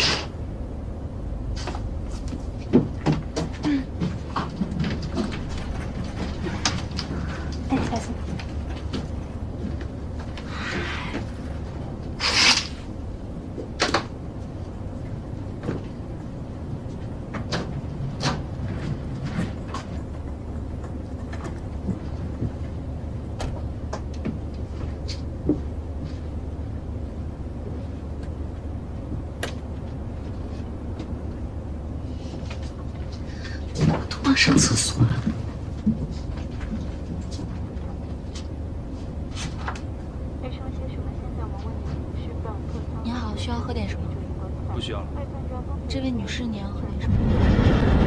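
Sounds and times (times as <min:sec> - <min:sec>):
airliner cabin hum: 0:00.0 - 0:48.0.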